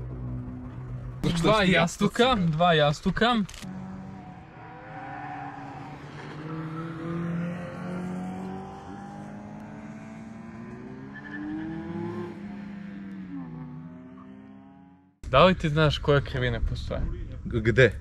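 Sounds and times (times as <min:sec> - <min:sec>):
car engines revving: 0:00.0 - 0:15.2.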